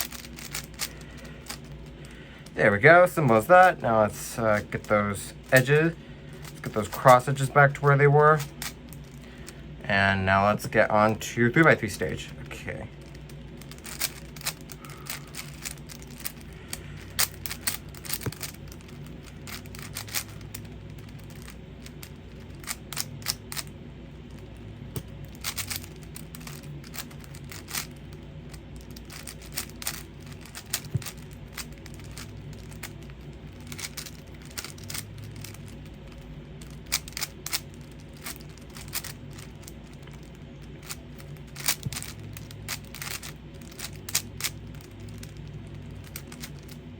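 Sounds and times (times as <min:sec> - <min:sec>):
puzzle cube clicking and clacking: 0:00.0 - 0:09.6, 0:10.6 - 0:46.8.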